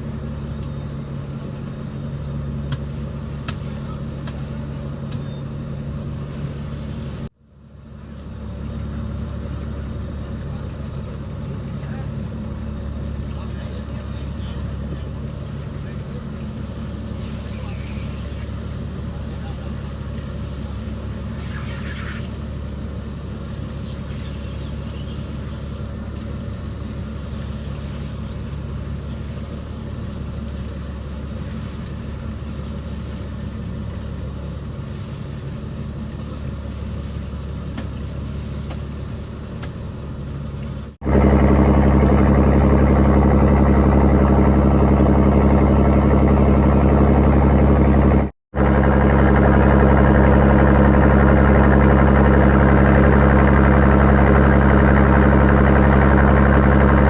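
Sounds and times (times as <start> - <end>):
boat engine running: 0.0 - 7.3, 8.6 - 57.0.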